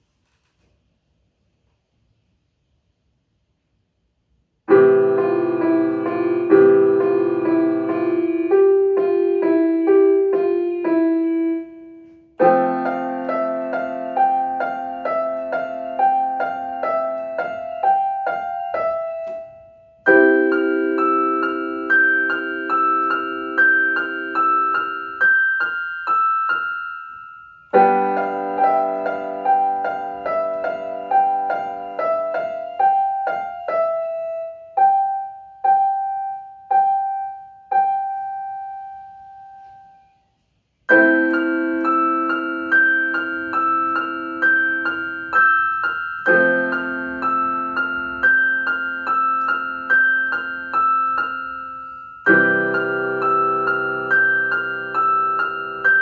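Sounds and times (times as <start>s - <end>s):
solo piano improvisation: 4.6s - 56.0s.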